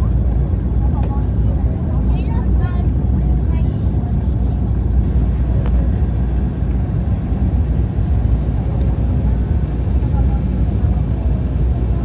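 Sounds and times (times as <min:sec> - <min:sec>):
jet engine low rumble: 0:00.0 - 0:12.0.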